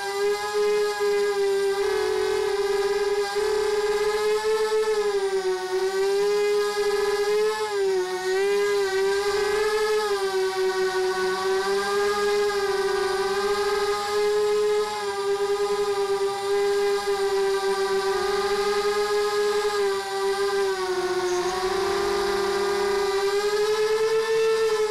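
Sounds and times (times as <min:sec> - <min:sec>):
drone motors whining: 0:00.0 - 0:24.9.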